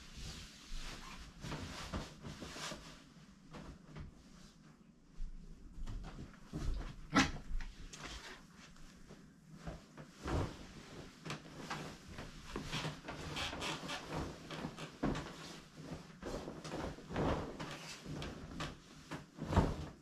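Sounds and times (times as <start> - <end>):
fabric rustling and swishing: 0.0 - 20.0.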